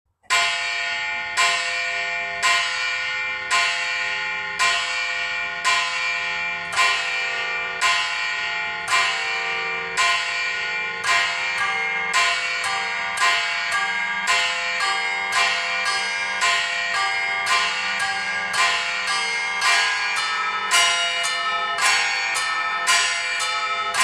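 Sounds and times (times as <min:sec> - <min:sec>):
church bells ringing: 0:00.3 - 0:24.0.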